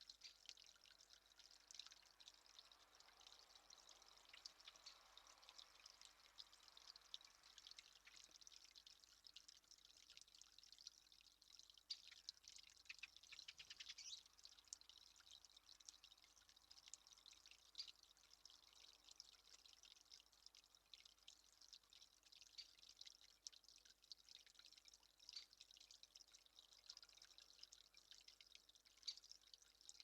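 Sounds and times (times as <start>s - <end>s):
faint water dripping: 0.0s - 30.0s.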